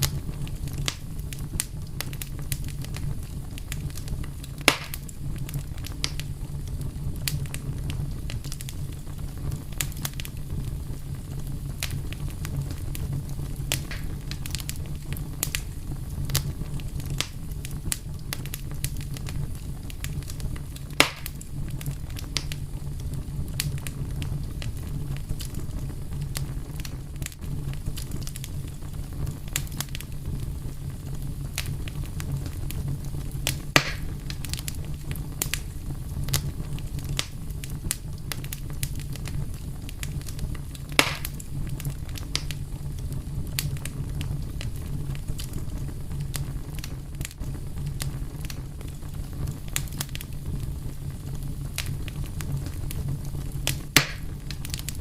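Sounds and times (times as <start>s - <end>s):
low rumble of burning: 0.0s - 55.0s
sharp fire pops: 0.0s - 55.0s
small fire crackles: 0.0s - 55.0s.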